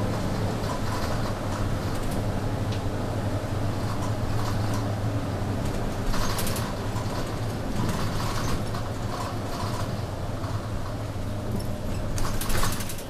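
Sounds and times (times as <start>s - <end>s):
bus engine hum: 0.0s - 13.0s
bus fittings rattling: 0.0s - 13.0s.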